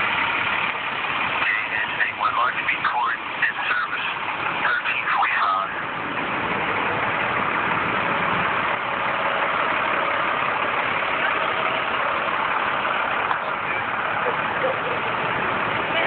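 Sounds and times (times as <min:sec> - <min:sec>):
floodwater rushing across street: 0:00.0 - 0:16.0
truck engine idling: 0:00.0 - 0:16.0.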